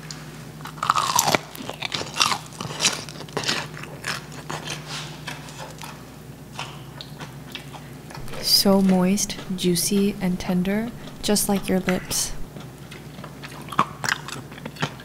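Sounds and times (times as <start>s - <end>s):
crunchy chewing of fried chicken: 0.0s - 15.0s.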